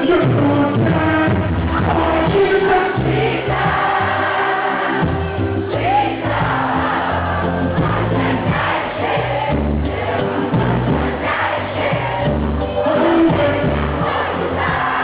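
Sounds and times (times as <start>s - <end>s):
bass line: 0.0s - 15.0s
crowd singing along: 0.0s - 15.0s
loud dancehall music: 0.0s - 15.0s
vocals: 0.0s - 15.0s.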